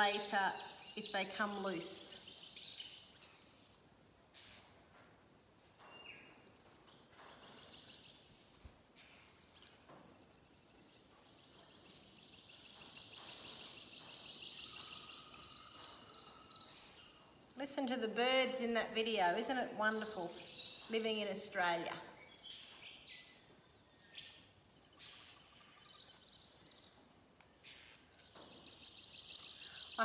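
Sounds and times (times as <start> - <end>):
faint birdsong: 0.0 - 4.9, 5.7 - 30.0.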